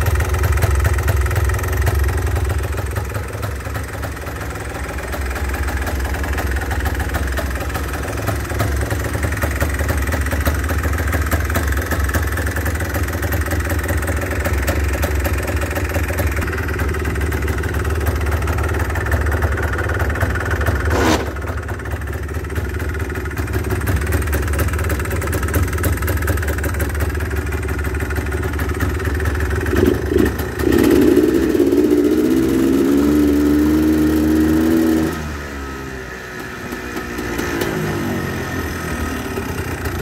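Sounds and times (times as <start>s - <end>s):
engine idling and revving: 0.0s - 40.0s.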